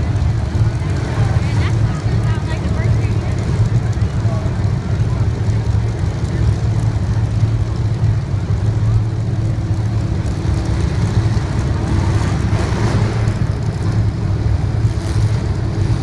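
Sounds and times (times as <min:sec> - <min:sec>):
race car engines rumbling: 0:00.0 - 0:16.0.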